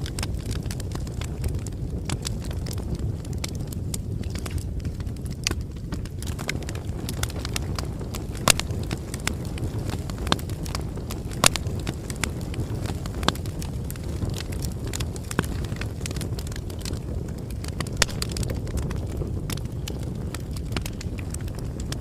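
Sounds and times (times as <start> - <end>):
bonfire crackling: 0.0 - 22.0.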